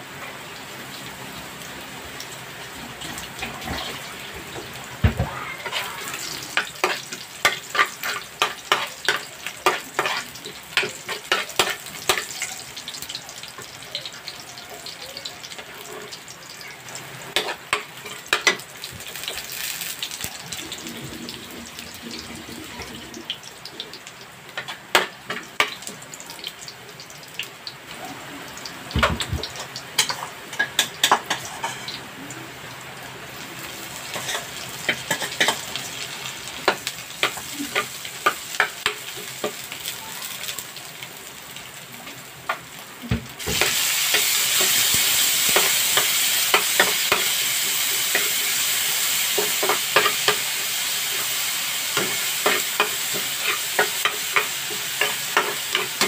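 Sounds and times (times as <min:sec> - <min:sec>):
onion sizzling in oil: 0:00.0 - 0:56.0.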